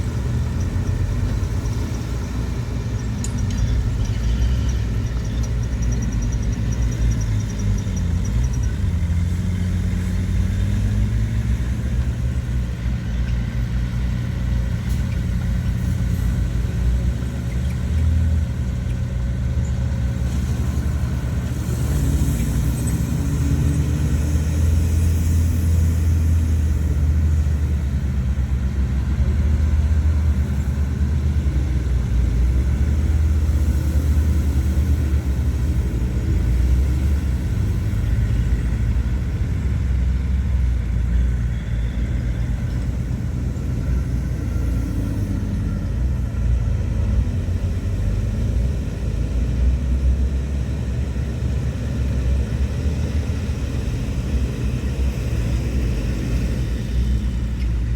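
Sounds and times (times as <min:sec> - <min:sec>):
heavy diesel engine rumbling: 0:00.0 - 0:57.9.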